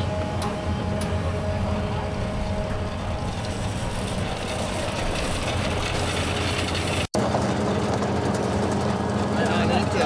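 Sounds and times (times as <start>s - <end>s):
heavy farm machinery engine running: 0.0s - 10.0s.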